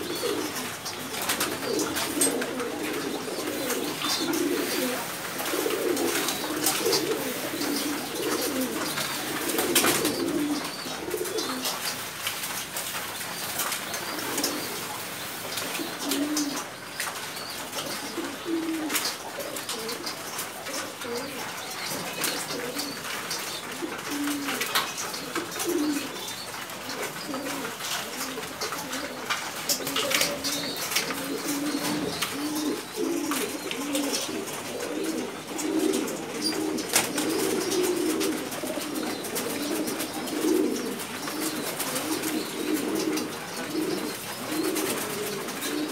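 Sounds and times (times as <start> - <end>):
pigeons cooing: 0.0 - 45.9.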